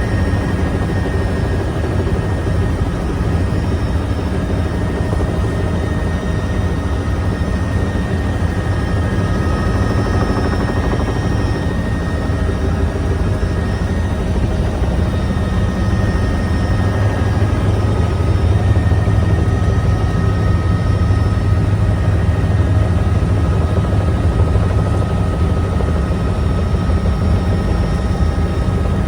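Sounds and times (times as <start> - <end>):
helicopter drone: 0.0 - 29.0.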